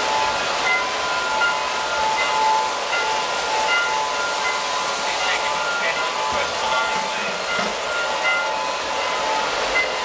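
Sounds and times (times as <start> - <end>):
high ringing tones: 0.0 - 10.0
model train rolling on metal track: 0.0 - 10.0.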